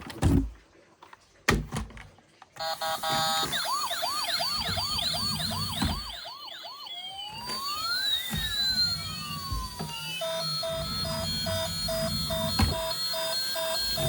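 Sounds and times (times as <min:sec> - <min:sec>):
fast whooping siren: 0:02.6 - 0:14.0
rising and falling siren tone: 0:02.6 - 0:14.0
short electronic beeps: 0:02.6 - 0:14.0.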